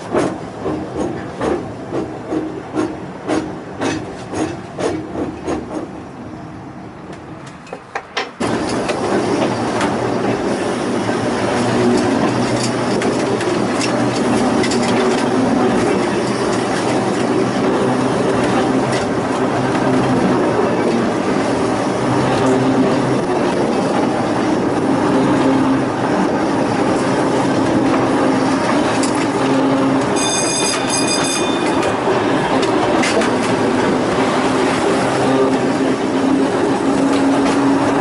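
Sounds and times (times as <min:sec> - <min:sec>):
railway car running on rails: 0:00.0 - 0:38.0.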